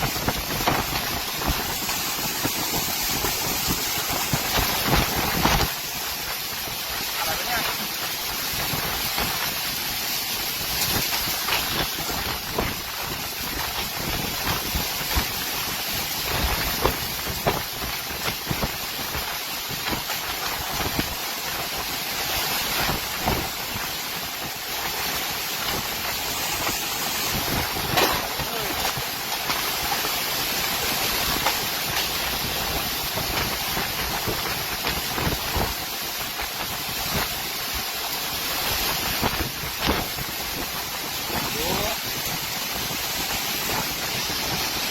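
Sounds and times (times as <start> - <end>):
storm wind gusting: 0.0 - 21.2, 21.8 - 44.9.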